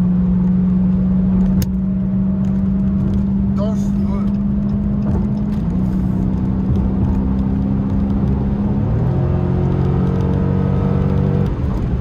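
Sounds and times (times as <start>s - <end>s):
car engine droning: 0.0s - 12.0s
low road rumble: 0.0s - 12.0s.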